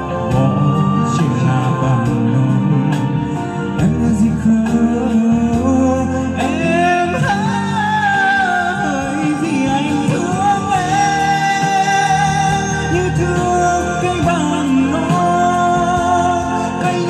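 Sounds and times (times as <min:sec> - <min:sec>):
instrumental backing music: 0:00.0 - 0:17.0
man singing into a microphone: 0:00.0 - 0:17.0.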